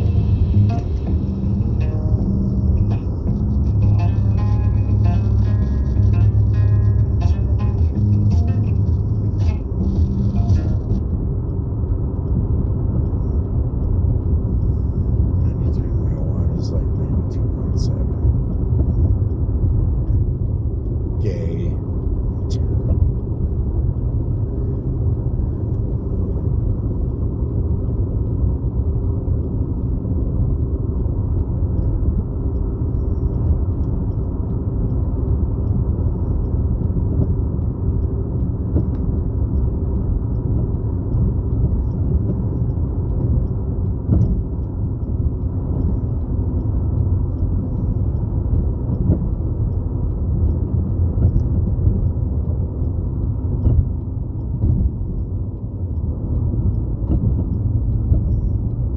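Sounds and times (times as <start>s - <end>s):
car driving rumble: 0.0s - 58.9s.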